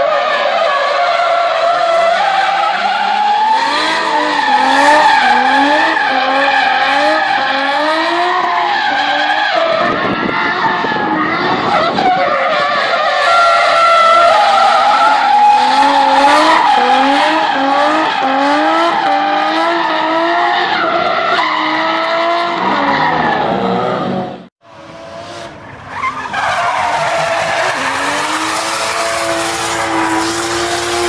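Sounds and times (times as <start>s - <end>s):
tyres skidding and squealing: 0.0s - 31.0s
car engine at high revs: 1.5s - 31.0s.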